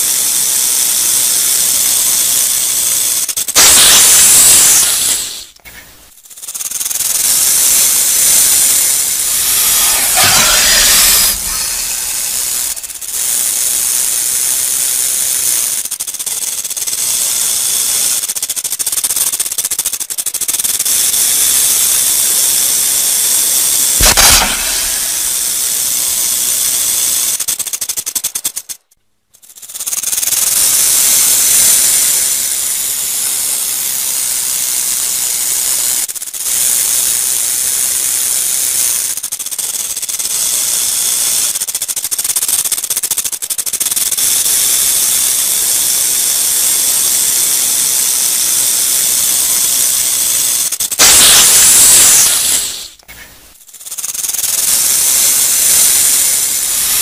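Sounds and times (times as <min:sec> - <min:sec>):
rattlesnake rattle buzzing: 0:00.0 - 0:57.0.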